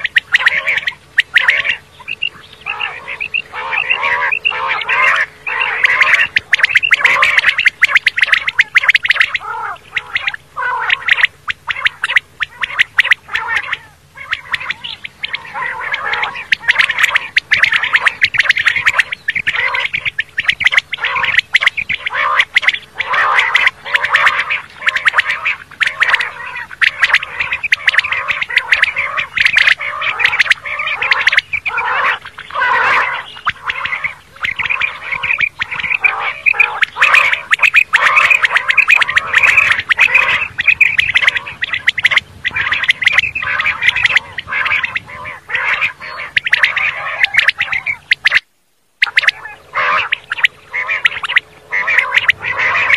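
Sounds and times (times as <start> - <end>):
quail calling: 0.0 - 52.9.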